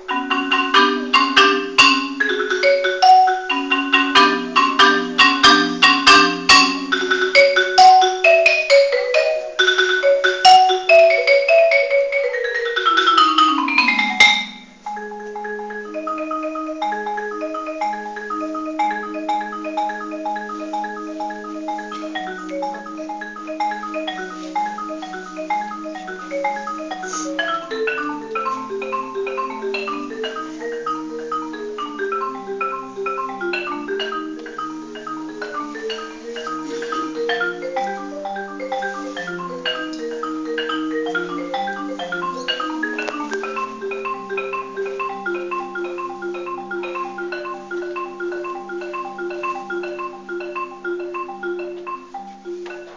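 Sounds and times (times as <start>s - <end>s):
marimba played with mallets: 0.0s - 52.9s.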